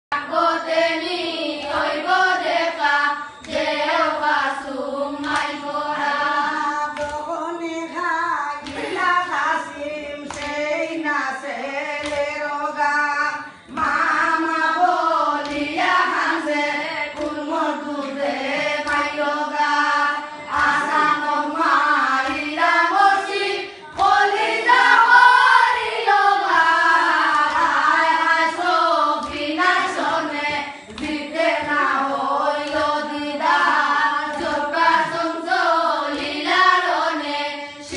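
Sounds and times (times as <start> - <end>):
group chanting a lament: 0.1 - 37.9.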